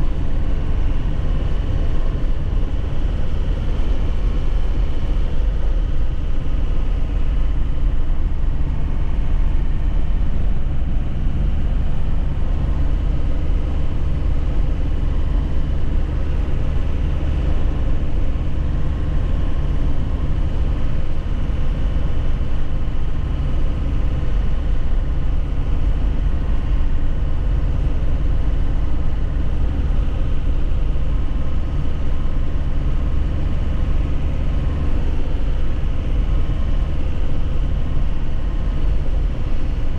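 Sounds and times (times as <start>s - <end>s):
road and tyre noise: 0.0s - 39.9s
truck engine running evenly: 0.0s - 39.9s.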